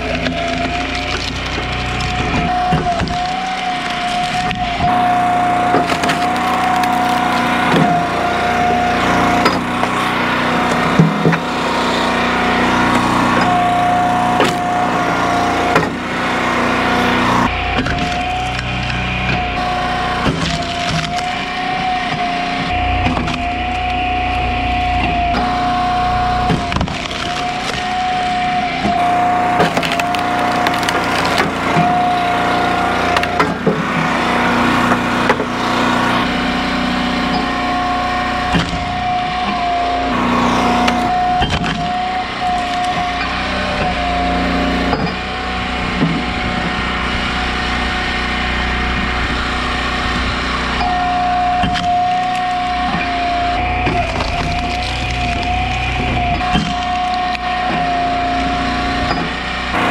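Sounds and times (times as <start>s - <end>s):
log splitter engine running: 0.0s - 59.9s
wood cracking and splintering: 0.0s - 59.9s.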